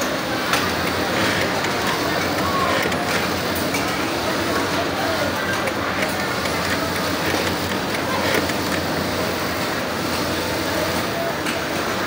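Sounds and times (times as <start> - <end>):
sewing machines clattering: 0.0 - 12.0.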